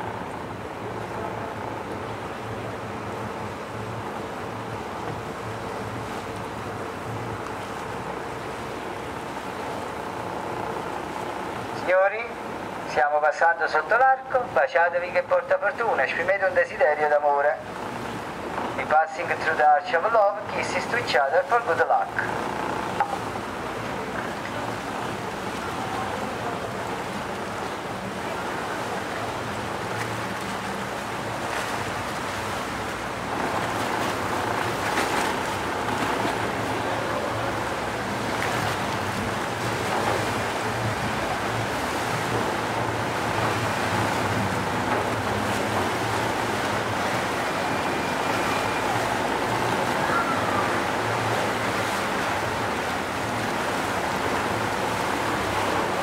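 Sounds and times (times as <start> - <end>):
boat engine running: 0.0 - 56.0
water splashing along hull: 0.0 - 56.0.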